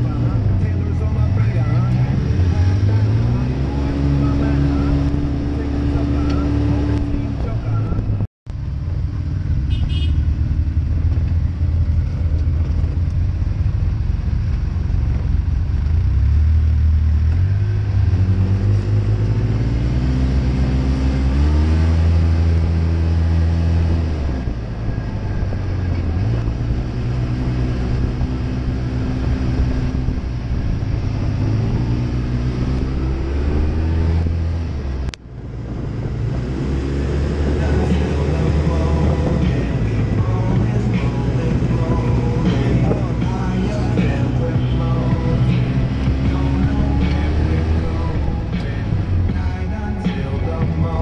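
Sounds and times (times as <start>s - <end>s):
utility vehicle engine revving: 0.0s - 51.0s.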